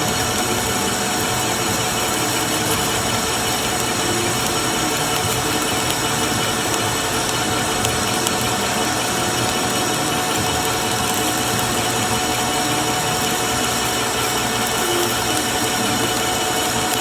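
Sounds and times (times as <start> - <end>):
machine tool running: 0.0 - 17.0.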